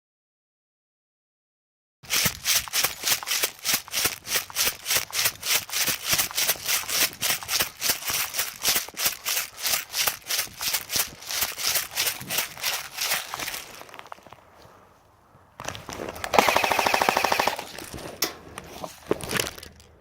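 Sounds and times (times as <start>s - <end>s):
running footsteps on dry vegetation: 2.0s - 19.9s.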